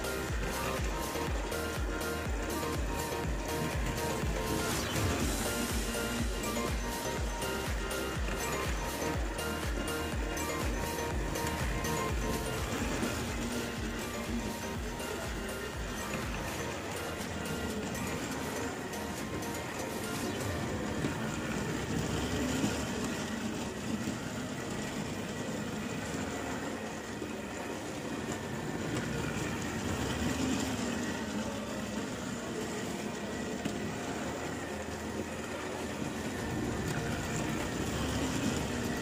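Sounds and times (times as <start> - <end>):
toy train motor whirring: 0.0 - 39.0.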